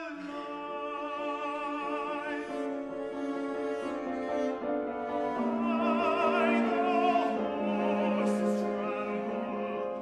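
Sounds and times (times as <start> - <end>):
string quartet playing: 0.0 - 10.0
piano chords: 0.3 - 10.0.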